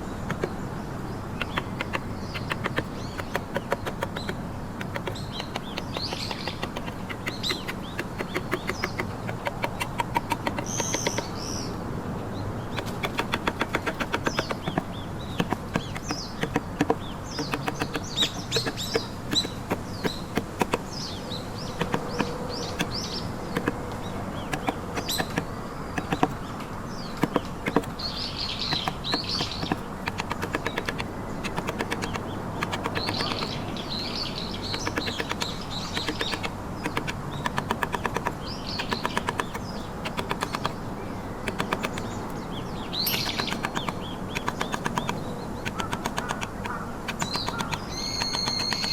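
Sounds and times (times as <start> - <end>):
birds chirping: 0.0 - 48.9
chisel tapping into wood: 0.2 - 0.6, 1.4 - 11.6, 12.7 - 33.6, 34.6 - 48.9.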